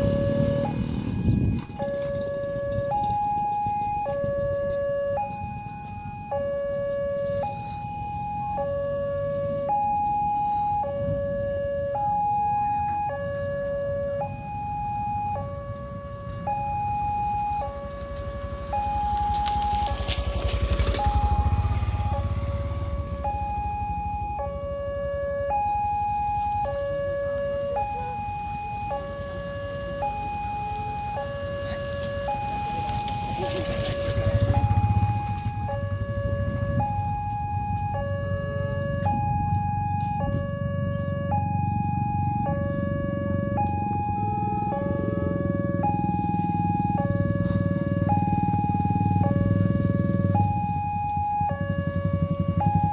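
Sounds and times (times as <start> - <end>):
level crossing two-tone alarm: 0.0 - 52.9
motorcycle engine humming: 0.0 - 52.9.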